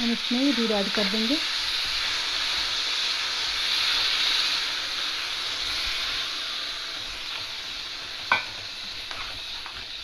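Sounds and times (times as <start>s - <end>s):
milk hissing in hot pan: 0.0s - 10.0s.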